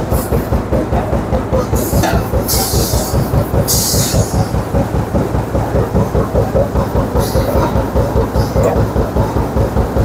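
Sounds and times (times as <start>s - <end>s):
bag making machine running: 0.0s - 10.0s.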